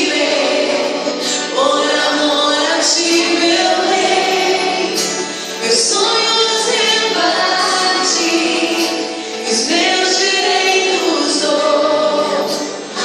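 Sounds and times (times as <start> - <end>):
backing vocals: 0.0 - 13.0
woman singing lead: 0.0 - 13.0.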